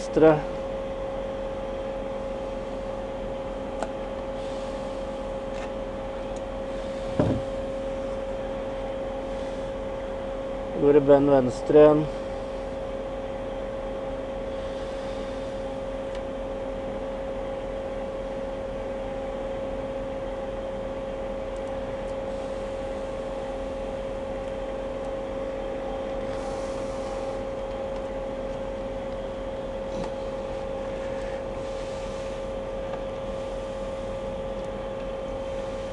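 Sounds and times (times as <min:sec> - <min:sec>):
steady hum with tone: 0:00.0 - 0:35.9.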